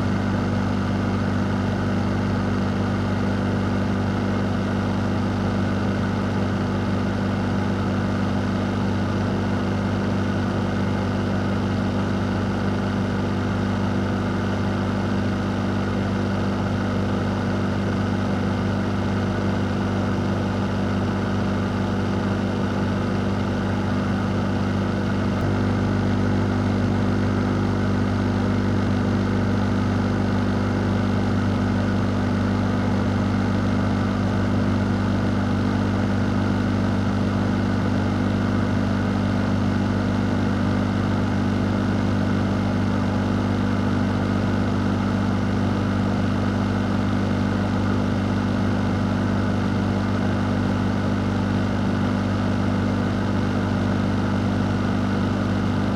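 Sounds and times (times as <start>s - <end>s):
fan hum: 0.0s - 55.9s.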